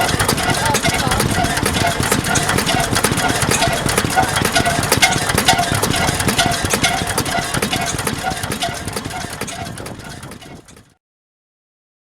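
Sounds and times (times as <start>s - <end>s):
oil engine running slowly: 0.0s - 11.0s.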